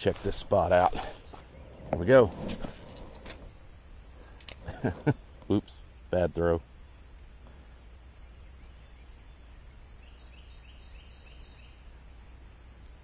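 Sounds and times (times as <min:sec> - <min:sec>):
crickets chirping: 0:00.0 - 0:13.0
quick falling insect calls: 0:00.0 - 0:13.0.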